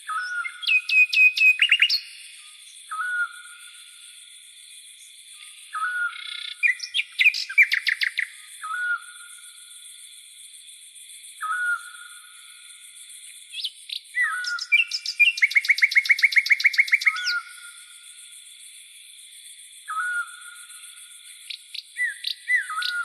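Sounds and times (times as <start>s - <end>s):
high-pitched insect chorus: 0.0s - 23.0s
night birds calling: 0.0s - 23.0s.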